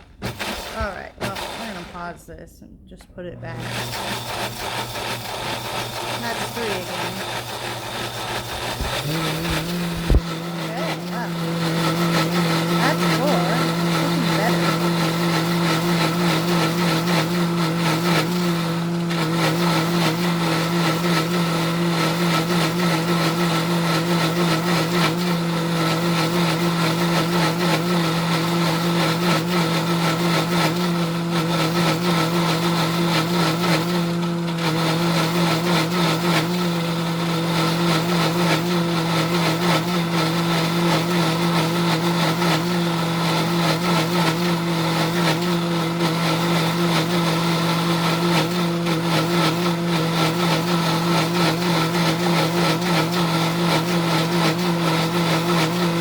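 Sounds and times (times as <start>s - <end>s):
blender motor humming: 0.0s - 2.3s, 3.0s - 56.0s.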